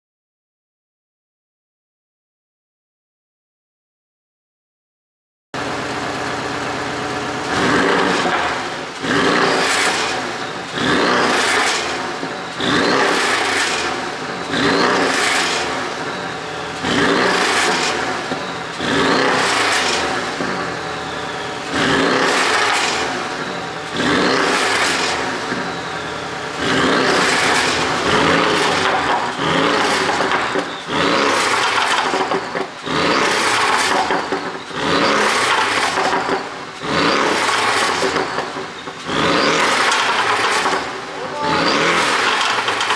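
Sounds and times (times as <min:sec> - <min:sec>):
car engine revving: 0:05.6 - 0:42.9
exhaust popping and crackling: 0:05.6 - 0:42.9.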